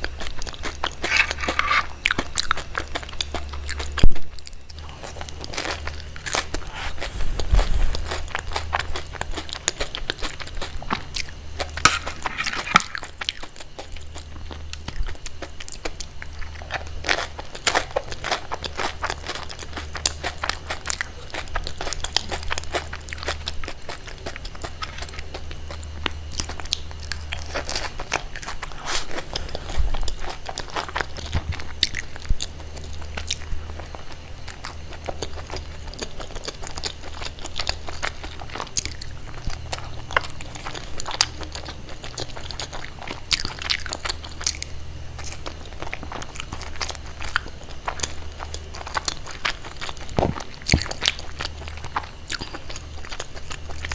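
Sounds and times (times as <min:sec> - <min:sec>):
crunchy bites and chewing: 0:00.0 - 0:53.9
low steady hum: 0:00.0 - 0:53.9.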